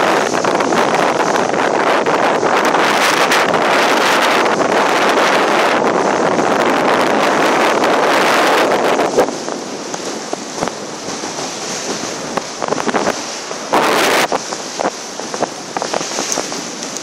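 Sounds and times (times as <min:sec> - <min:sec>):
choppy water slapping hull: 0:00.0 - 0:17.0
wind buffeting microphone: 0:00.0 - 0:17.0.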